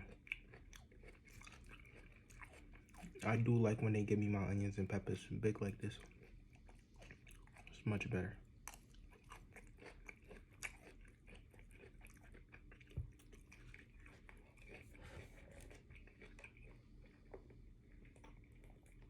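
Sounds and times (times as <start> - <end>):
person chewing food: 0.0 - 4.2, 4.9 - 19.0.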